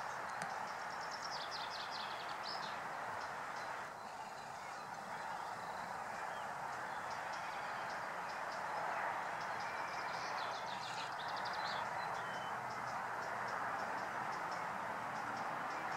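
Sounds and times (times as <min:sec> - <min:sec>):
small birds chirping and trilling: 0:00.0 - 0:15.9.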